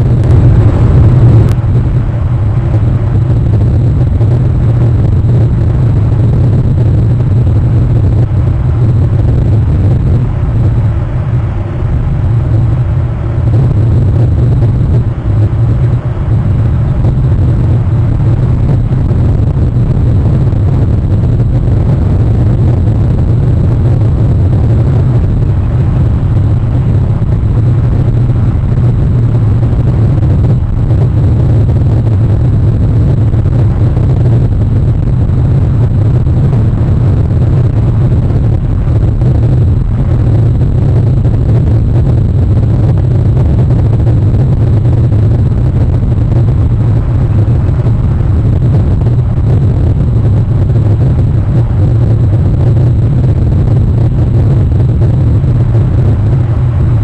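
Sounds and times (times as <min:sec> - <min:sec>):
loud low rumble: 0:00.0 - 0:57.0.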